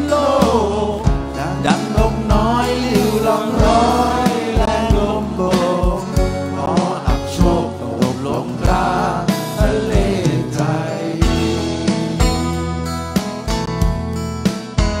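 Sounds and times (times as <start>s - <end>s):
voices singing: 0.0s - 12.4s
guitars: 0.0s - 15.0s
live band playing: 0.0s - 15.0s.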